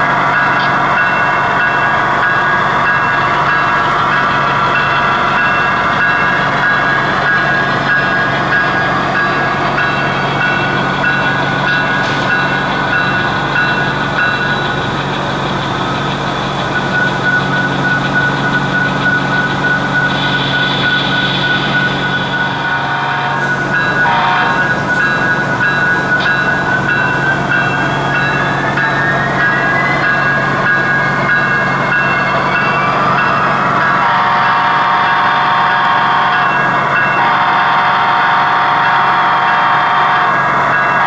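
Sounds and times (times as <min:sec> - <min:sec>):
model train diesel engine sound: 0:00.0 - 0:41.0.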